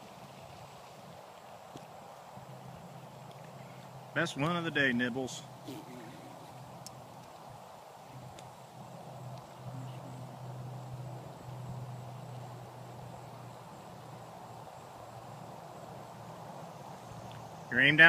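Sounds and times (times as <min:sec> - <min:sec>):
steady low hum: 0:01.8 - 0:18.0.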